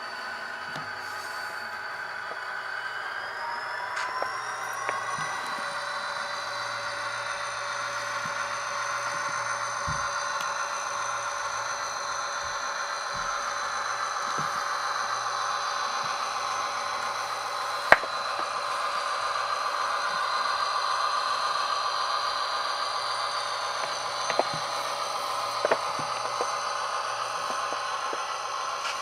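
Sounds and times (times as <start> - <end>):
diesel engine sound from small speaker: 0.0 - 29.0.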